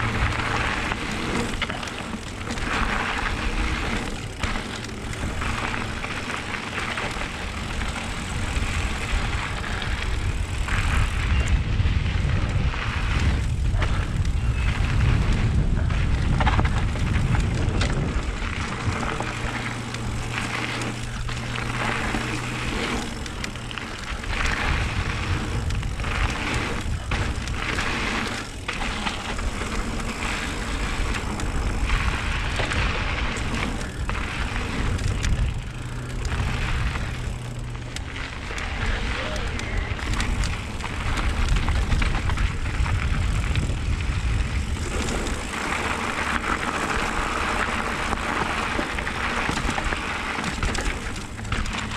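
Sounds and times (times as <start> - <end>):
bike tyres rumbling and rattling: 0.0 - 51.9
wind rushing over camera: 0.0 - 51.9.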